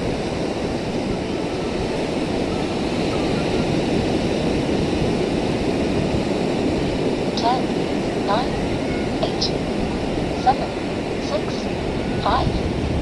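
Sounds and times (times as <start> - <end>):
sea surf on rocky shore: 0.0 - 13.0
wind: 0.0 - 13.0.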